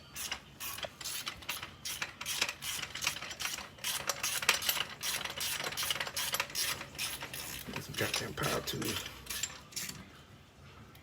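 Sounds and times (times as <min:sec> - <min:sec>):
ratchet wrench clicking: 0:00.2 - 0:10.0.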